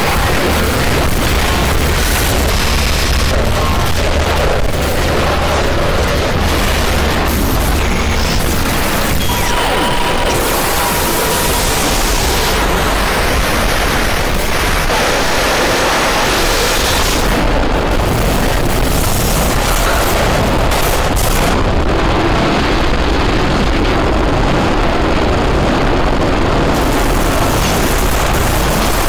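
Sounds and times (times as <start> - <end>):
harsh distorted noise music: 0.0 - 29.0
heavy low rumble: 0.0 - 29.0.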